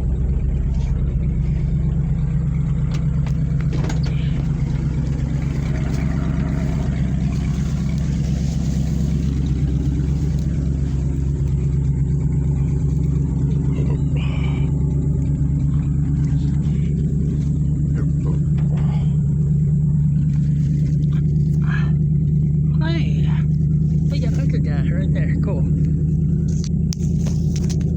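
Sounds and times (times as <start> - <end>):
truck engine running under load: 0.0 - 27.9.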